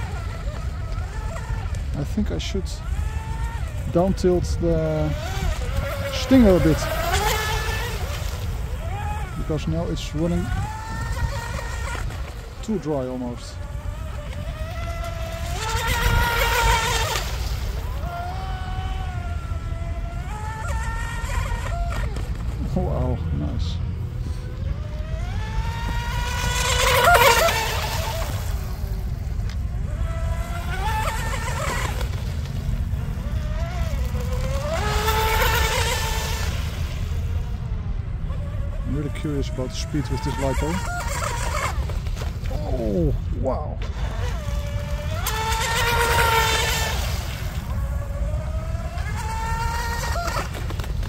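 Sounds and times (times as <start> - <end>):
electric boat motor whining: 0.0 - 51.0.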